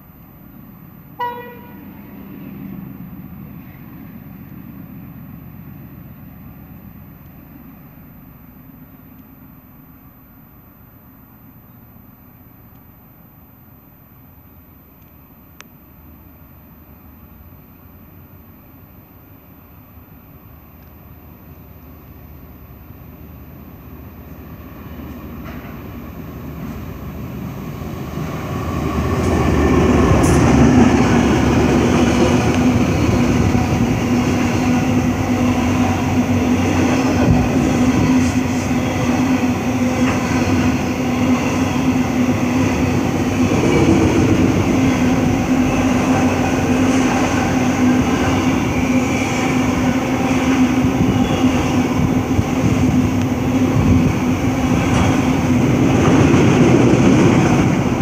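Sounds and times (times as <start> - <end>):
train wagons rumbling past: 0.0 - 10.0, 21.0 - 58.0
diesel locomotive passing: 0.0 - 58.0.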